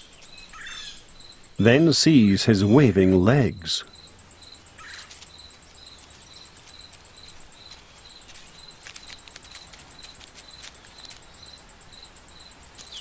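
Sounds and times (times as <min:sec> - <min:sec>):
high continuous insect trill: 0:00.0 - 0:13.0
pulsed insect chirp: 0:00.0 - 0:13.0.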